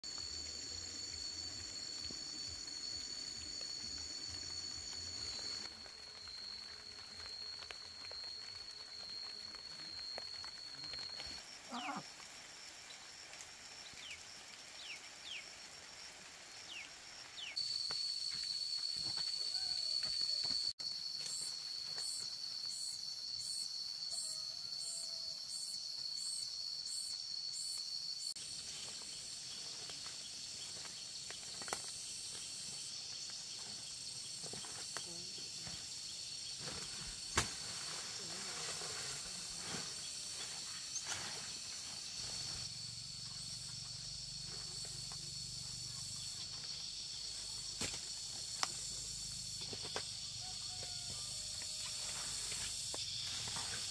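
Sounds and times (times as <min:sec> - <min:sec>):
insects droning high-pitched: 0:00.0 - 0:53.9.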